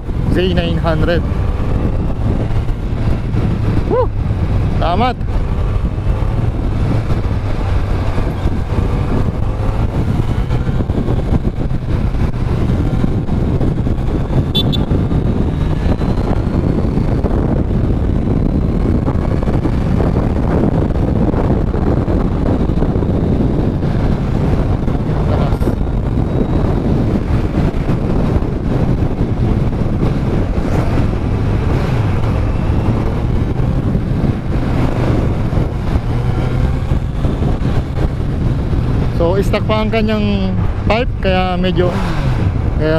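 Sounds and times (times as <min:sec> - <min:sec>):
motorcycle engine running: 0:00.0 - 0:42.9
wind rushing past microphone: 0:00.0 - 0:42.9.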